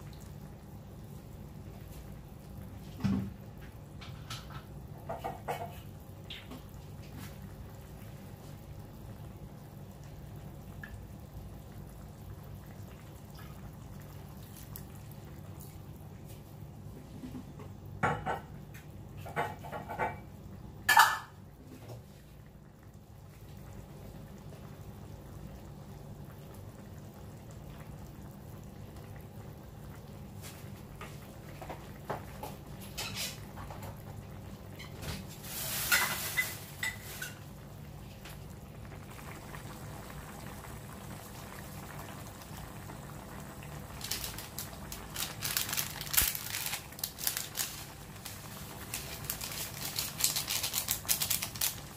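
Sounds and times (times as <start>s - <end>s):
liquid bubbling in a wok: 0.0s - 51.9s.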